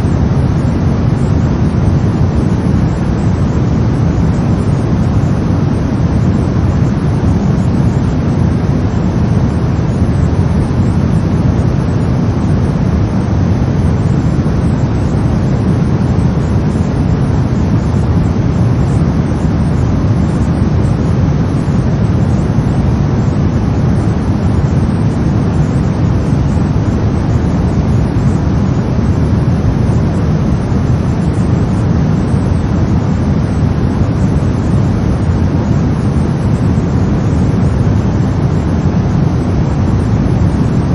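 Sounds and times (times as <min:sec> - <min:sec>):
brown noise: 0:00.0 - 0:40.9.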